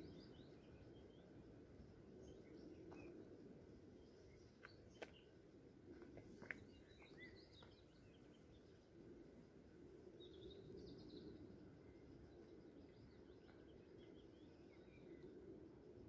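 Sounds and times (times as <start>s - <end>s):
faint birds chirping: 0.0s - 16.0s
low steady background hush: 0.0s - 16.0s.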